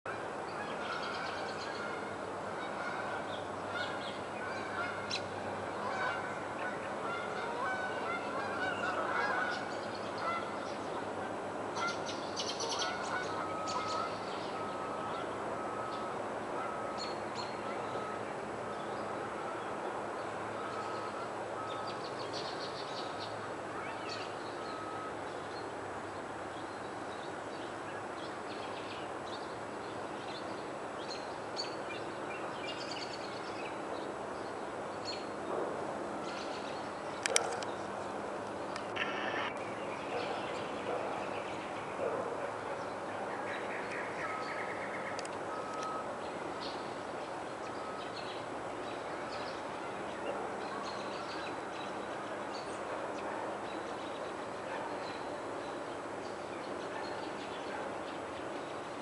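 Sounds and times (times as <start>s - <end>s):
steady background hiss: 0.1s - 59.0s
birds calling: 0.5s - 59.0s.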